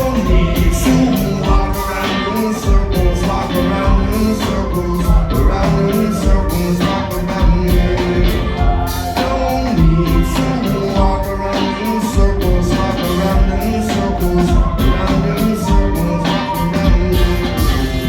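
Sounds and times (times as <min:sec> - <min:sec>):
drums keeping steady beat: 0:00.0 - 0:18.0
live rock band playing: 0:00.0 - 0:18.0.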